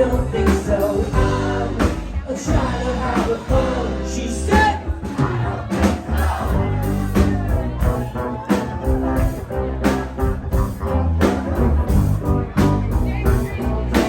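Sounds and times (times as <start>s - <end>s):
drum kit steady beat: 0.0s - 14.0s
electric bass: 0.0s - 14.0s.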